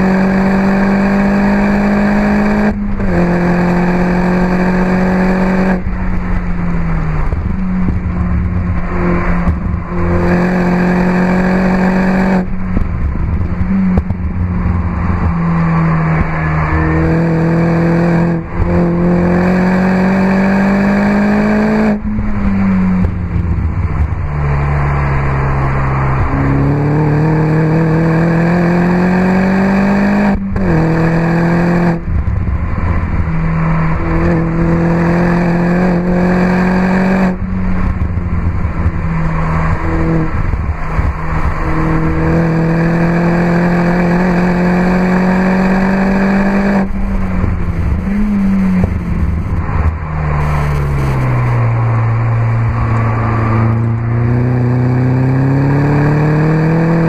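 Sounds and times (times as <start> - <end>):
car engine revving hard: 0.0 - 6.0, 7.2 - 12.6, 13.6 - 23.3, 25.2 - 57.0.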